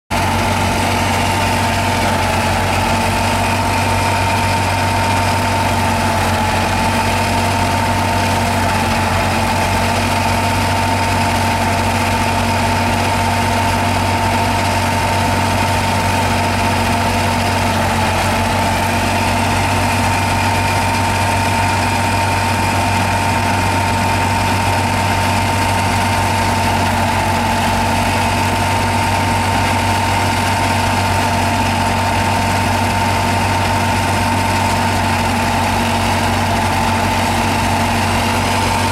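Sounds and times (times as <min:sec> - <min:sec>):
threshing machine drone: 0:00.1 - 0:38.9.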